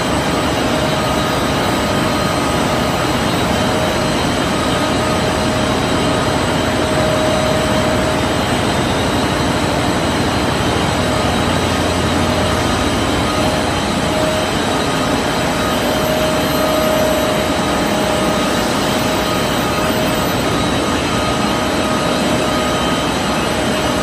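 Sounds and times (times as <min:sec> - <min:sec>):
machine whining tones: 0:00.0 - 0:24.0
washing machine mechanical noise: 0:00.0 - 0:24.0.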